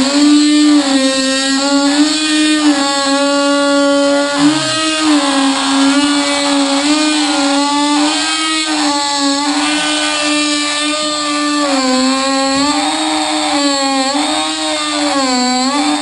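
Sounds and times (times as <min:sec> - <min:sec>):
power tool motor whining: 0:00.0 - 0:16.0.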